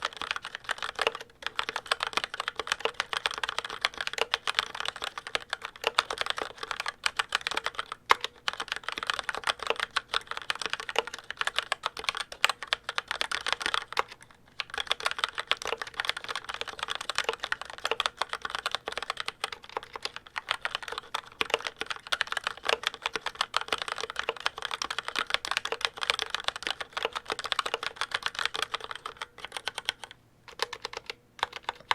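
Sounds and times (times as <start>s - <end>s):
mechanical keyboard typing: 0.0s - 31.9s.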